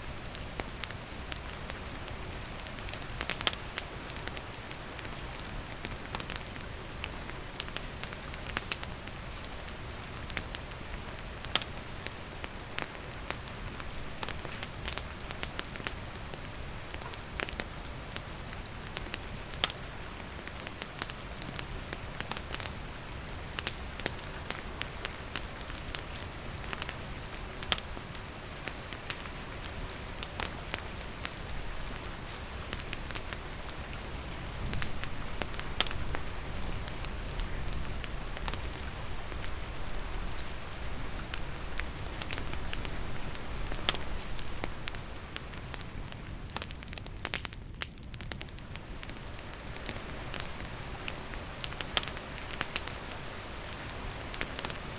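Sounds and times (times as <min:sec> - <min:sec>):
steady rain falling: 0:00.0 - 0:54.9
campfire crackling and popping: 0:00.1 - 0:54.9.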